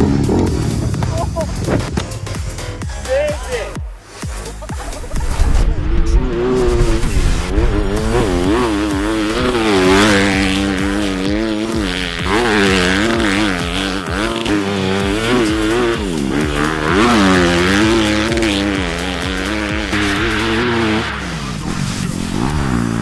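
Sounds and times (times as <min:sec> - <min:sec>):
dirt bike engine revving: 0:00.0 - 0:03.8, 0:04.4 - 0:23.0.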